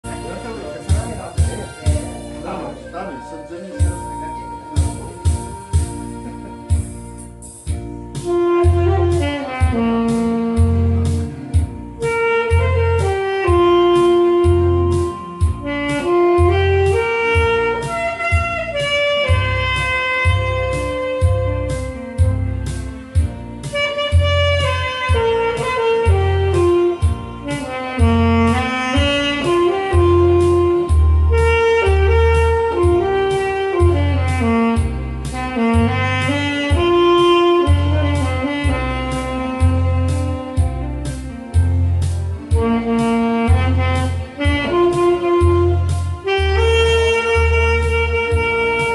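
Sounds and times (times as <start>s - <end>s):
backing track with bass beat: 0.0s - 48.9s
saxophone melody: 0.0s - 48.9s.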